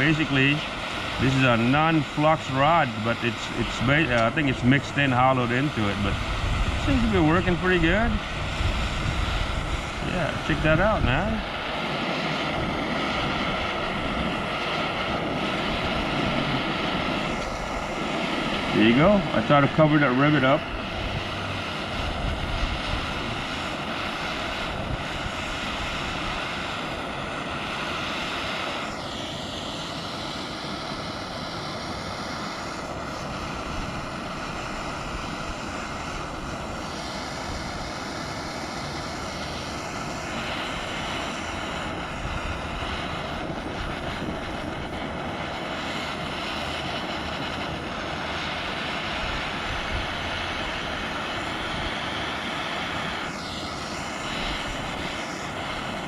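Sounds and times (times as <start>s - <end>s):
gas torch flame rushing: 0.0s - 56.0s.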